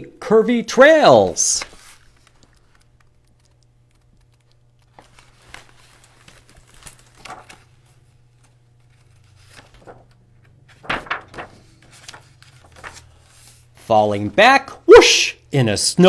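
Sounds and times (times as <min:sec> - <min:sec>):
low steady hum: 0:00.0 - 0:16.0
paper pages rustling: 0:01.2 - 0:14.3.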